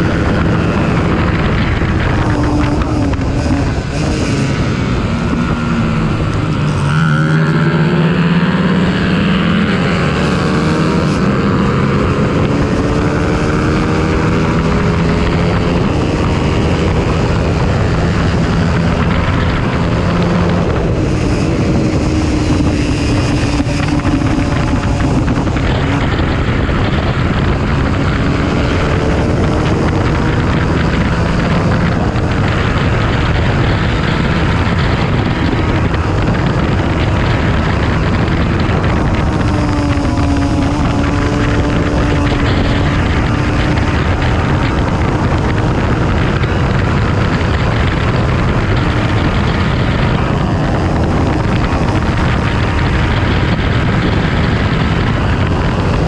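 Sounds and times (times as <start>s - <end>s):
motorcycle engine revving high: 0.0s - 56.0s
wind rushing on microphone: 0.0s - 56.0s.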